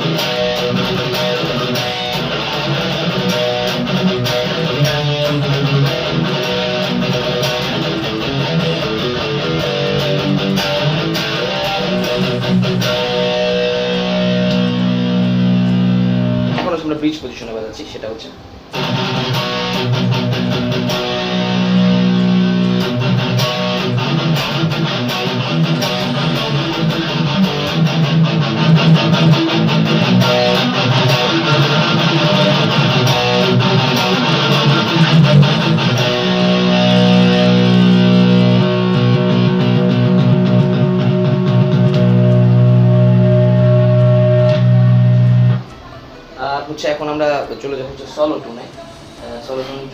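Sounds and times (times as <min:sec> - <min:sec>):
distorted electric guitar chords: 0:00.0 - 0:16.7, 0:18.4 - 0:46.2.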